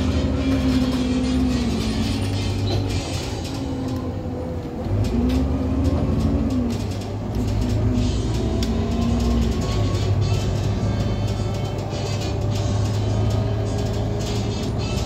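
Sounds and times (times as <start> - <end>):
bus engine with whining drivetrain: 0.0 - 15.0.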